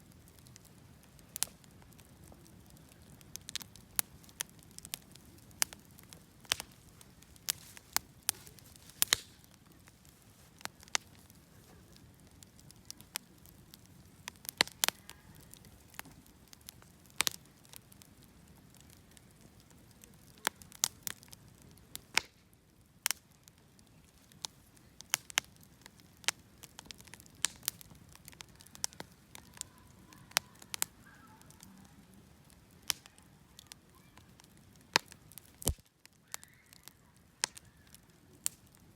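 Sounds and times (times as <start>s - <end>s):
low rush of flames: 0.0s - 33.8s
bonfire crackling and popping: 0.0s - 38.9s.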